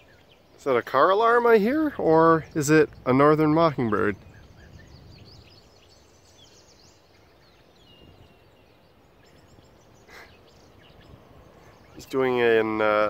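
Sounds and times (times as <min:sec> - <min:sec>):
mockingbird song: 0:00.0 - 0:13.0.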